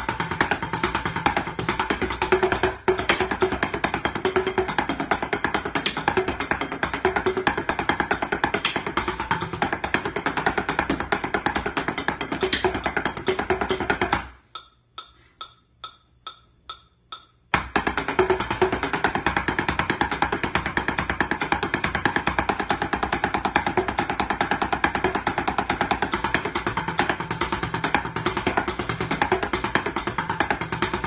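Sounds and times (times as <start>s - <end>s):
instrumental beat: 0.0s - 31.0s.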